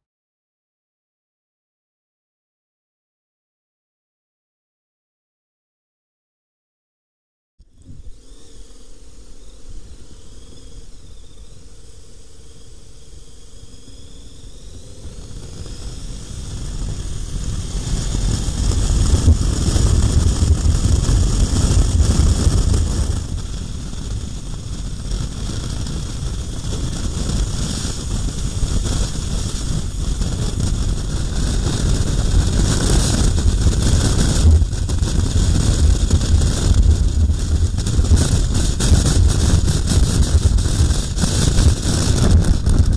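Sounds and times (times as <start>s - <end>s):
wind noise on microphone: 7.6s - 42.9s.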